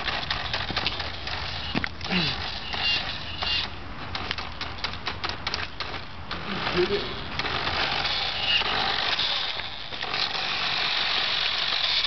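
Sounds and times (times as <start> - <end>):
toy car electric motor whir: 0.0 - 4.4, 6.4 - 12.0.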